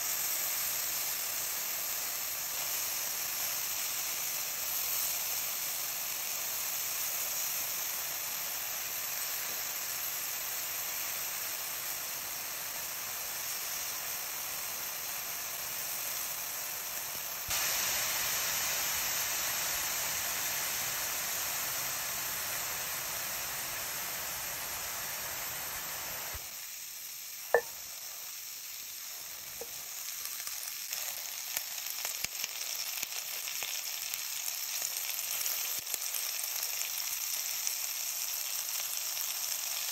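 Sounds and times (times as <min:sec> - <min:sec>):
mushrooms sizzling in a skillet: 0:00.0 - 0:39.9.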